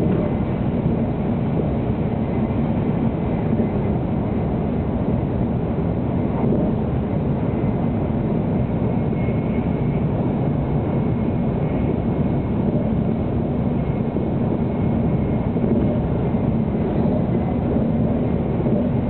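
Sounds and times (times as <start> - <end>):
train rumble inside cabin: 0.0 - 19.0.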